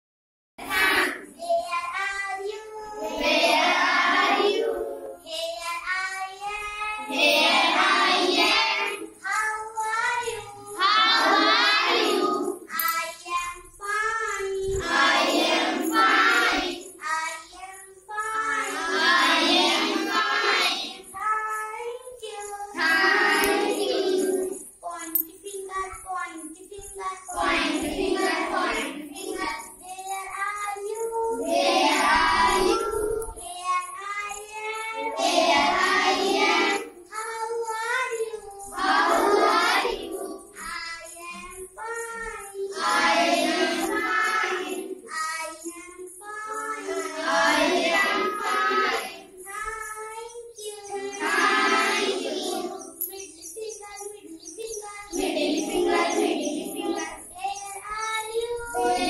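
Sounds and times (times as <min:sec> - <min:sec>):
children singing together: 0:00.6 - 0:59.0.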